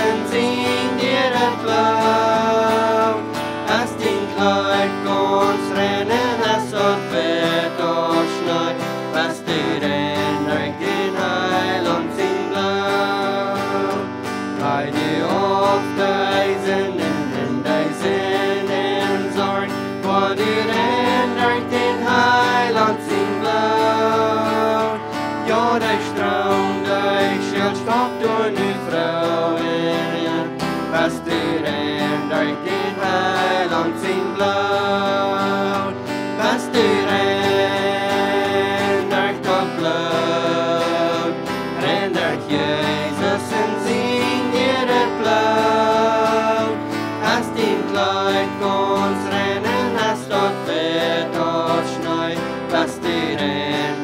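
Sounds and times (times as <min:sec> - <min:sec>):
strummed acoustic guitar: 0:00.0 - 0:54.0
voices singing together: 0:00.0 - 0:54.0.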